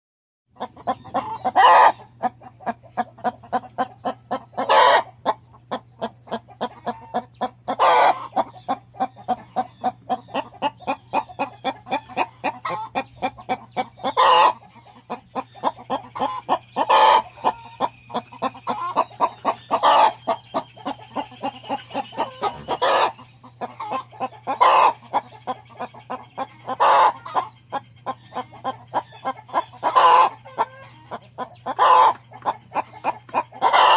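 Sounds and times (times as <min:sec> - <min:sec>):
hen cackling: 0:00.5 - 0:33.9
steady low hum: 0:00.5 - 0:33.9.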